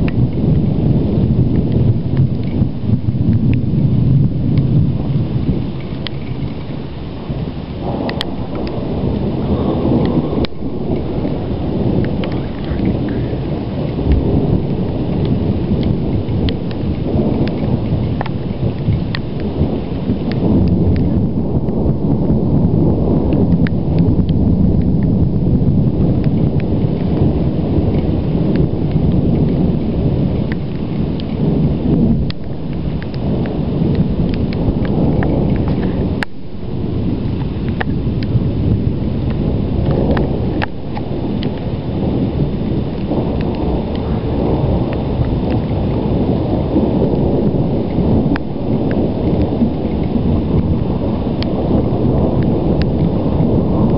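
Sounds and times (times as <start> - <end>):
low rumbling thunder: 0.0 - 53.9.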